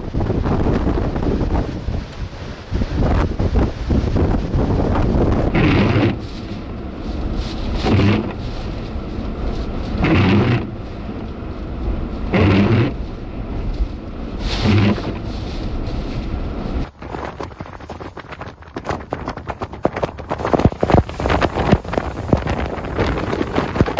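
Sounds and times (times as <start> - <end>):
low rumble of wind: 0.0 - 23.9
windshield wipers sweeping: 0.3 - 23.9.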